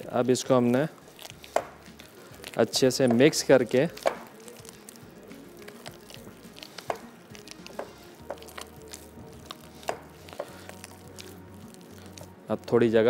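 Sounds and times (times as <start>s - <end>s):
hands kneading dough squishing: 0.0s - 13.0s.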